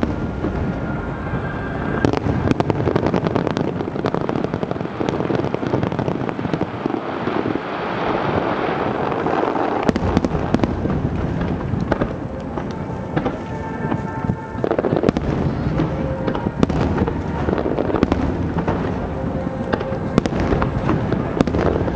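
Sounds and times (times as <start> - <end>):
fireworks bangs: 0.0 - 21.9
fireworks crackling: 0.0 - 21.9.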